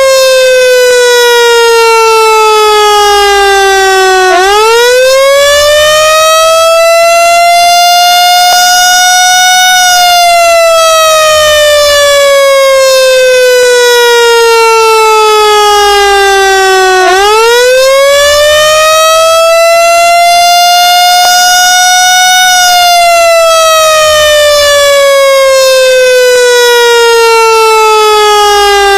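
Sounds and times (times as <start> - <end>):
siren wailing: 0.0 - 28.9.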